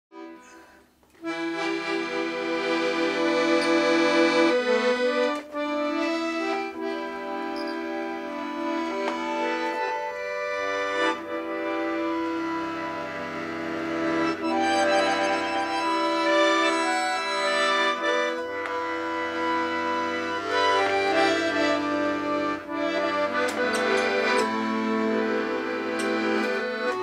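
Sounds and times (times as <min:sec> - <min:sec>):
button accordion playing: 0:00.2 - 0:27.0.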